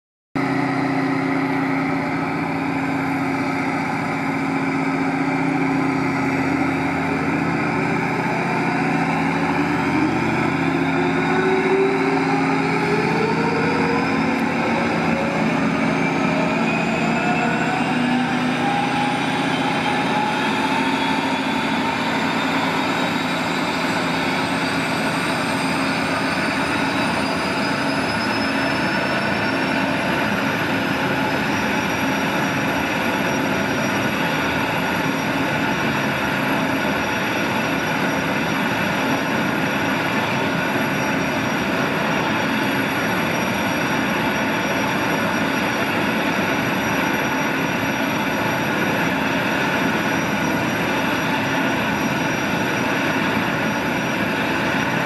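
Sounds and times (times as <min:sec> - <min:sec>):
gas turbine whine rising: 0:00.4 - 0:55.0
low machinery hum: 0:00.4 - 0:55.0.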